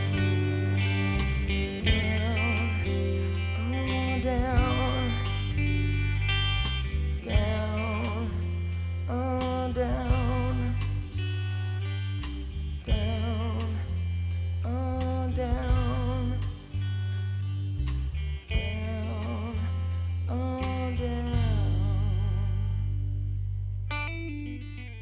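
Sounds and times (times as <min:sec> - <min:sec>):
sustained low bass notes: 0:00.0 - 0:25.0.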